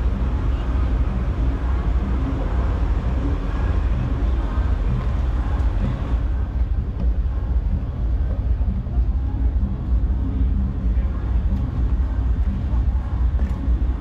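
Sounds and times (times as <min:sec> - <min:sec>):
crowd hubbub: 0:00.0 - 0:14.0
low rumble: 0:00.0 - 0:14.0.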